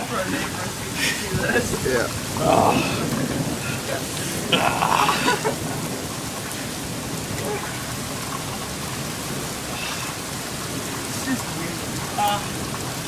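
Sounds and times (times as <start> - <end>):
heavy wind-driven rain: 0.0 - 13.0.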